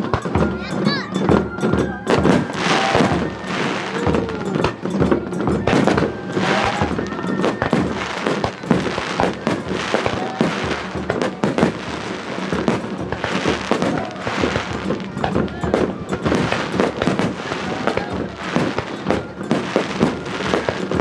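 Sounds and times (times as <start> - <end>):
background music: 0.0 - 21.0
fireworks crackling: 0.0 - 21.0
fireworks launching and bursting: 0.0 - 21.0.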